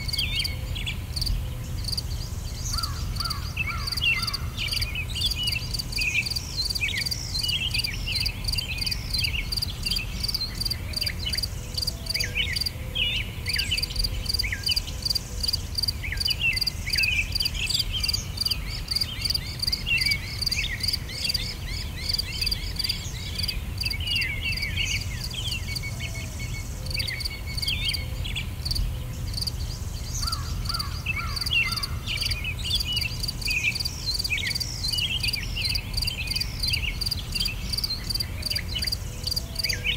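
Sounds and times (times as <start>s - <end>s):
birds chirping: 0.0s - 39.9s
crickets chirping: 0.0s - 39.9s.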